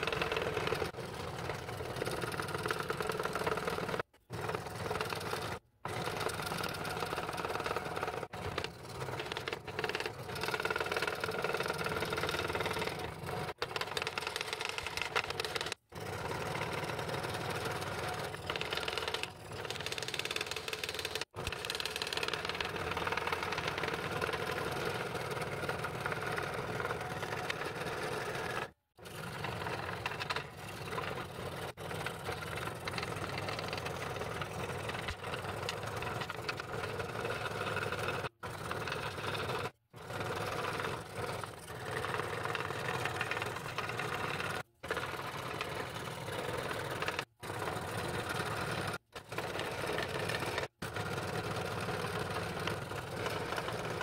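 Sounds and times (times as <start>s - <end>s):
scroll saw cutting wood: 0.0s - 54.0s.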